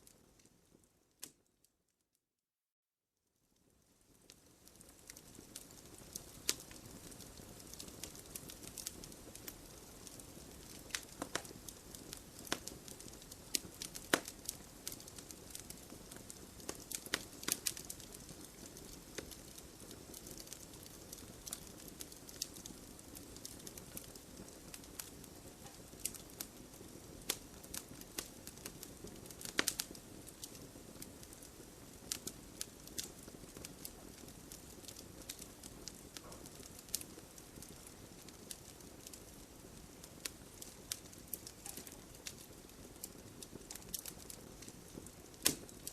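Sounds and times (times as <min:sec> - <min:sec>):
logs crackling and popping: 0:04.0 - 0:45.9.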